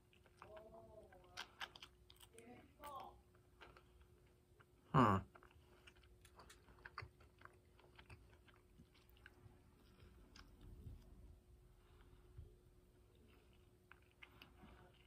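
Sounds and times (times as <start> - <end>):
chewing fried chicken: 0.0 - 15.0.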